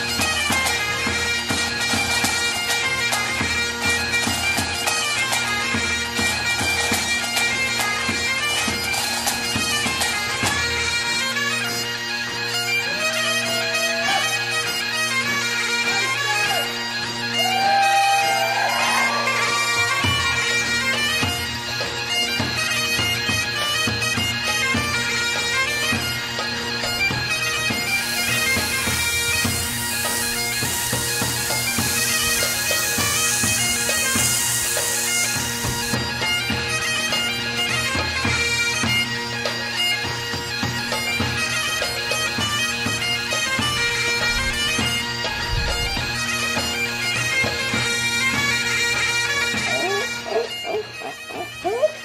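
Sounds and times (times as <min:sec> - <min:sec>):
bagpipe music: 0:00.0 - 0:52.0.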